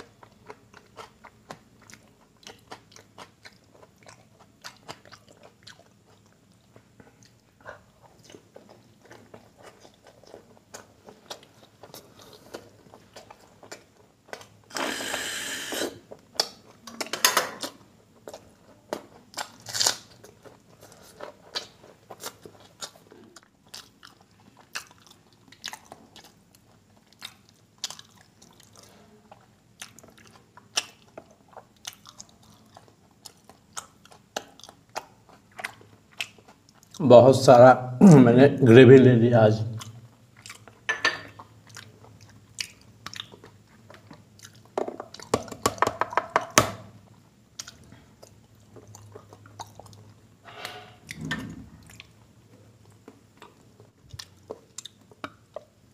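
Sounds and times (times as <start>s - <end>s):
person chewing and smacking: 0.0s - 14.7s, 16.0s - 37.1s, 39.8s - 50.4s, 51.0s - 55.9s.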